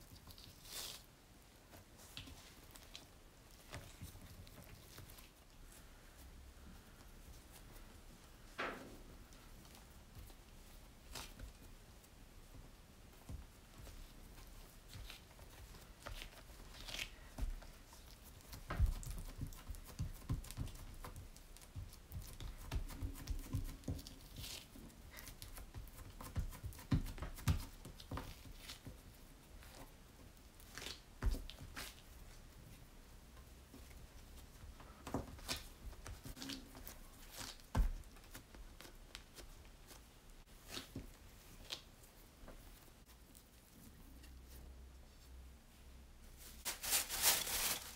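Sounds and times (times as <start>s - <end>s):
sticky dough squishes: 0.0s - 8.3s, 9.3s - 44.8s
hands patting dough: 1.7s - 43.4s.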